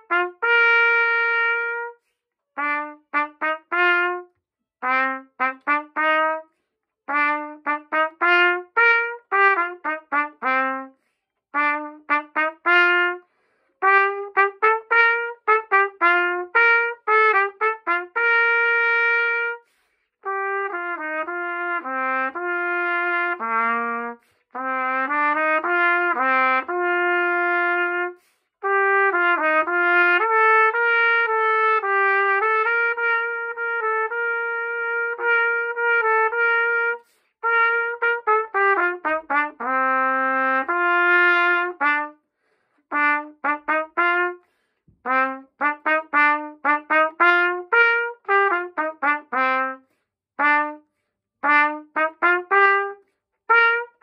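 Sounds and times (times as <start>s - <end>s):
solo trumpet melody: 0.0s - 54.0s.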